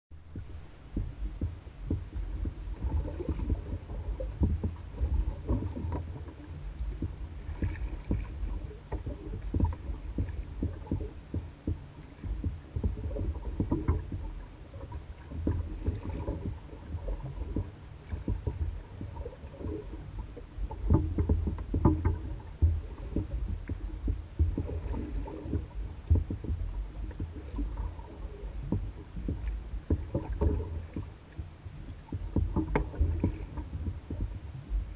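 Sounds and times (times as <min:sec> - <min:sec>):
steady low rumble: 0:00.1 - 0:34.9
waves lapping against canoe hull: 0:00.2 - 0:34.9.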